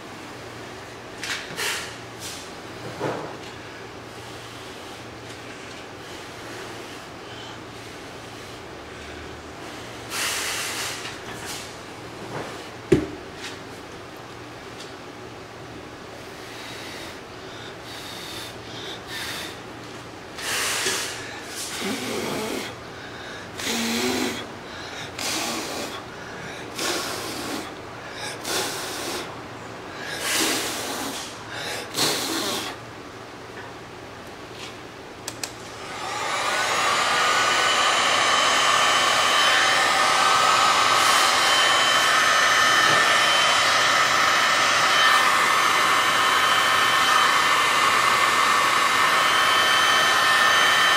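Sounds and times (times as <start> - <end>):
heat gun fan whining: 0.0 - 50.9.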